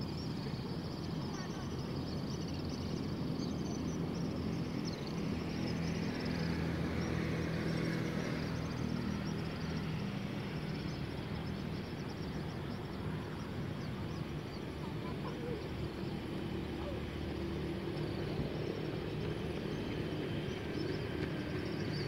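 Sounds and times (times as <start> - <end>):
insects chirping in trills: 0.0 - 22.0
traffic hum: 0.0 - 22.0.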